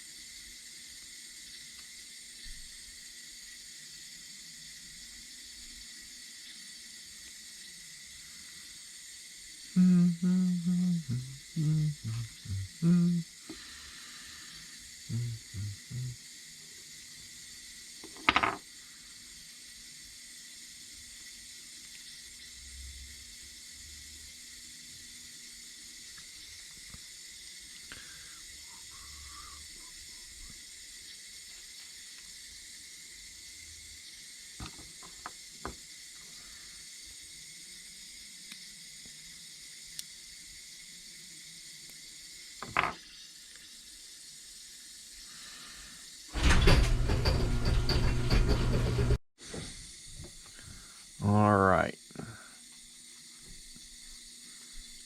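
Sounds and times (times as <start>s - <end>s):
water hissing through softener: 0.0s - 55.0s.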